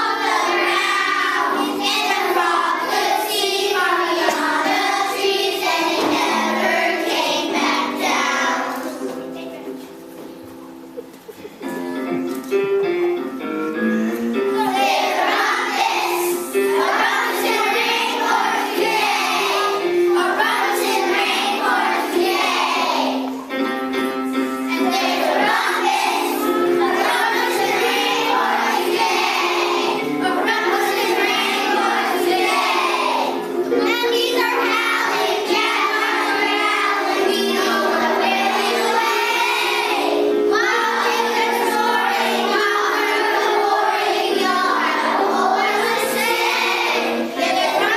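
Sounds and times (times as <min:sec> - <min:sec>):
children singing: 0:00.0 - 0:09.2, 0:14.4 - 0:23.6, 0:24.3 - 0:47.9
instrumental accompaniment: 0:00.0 - 0:47.9.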